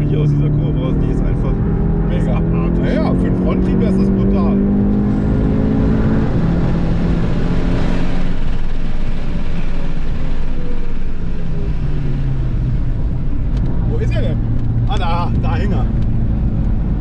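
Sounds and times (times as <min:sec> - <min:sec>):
car engine from inside cabin: 0:00.0 - 0:17.0
road and wind noise: 0:00.0 - 0:17.0.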